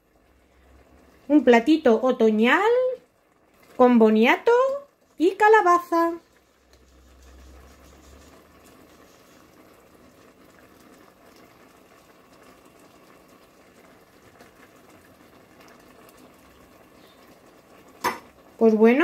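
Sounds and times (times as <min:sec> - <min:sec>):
stew bubbling in a pot: 0:00.0 - 0:19.0.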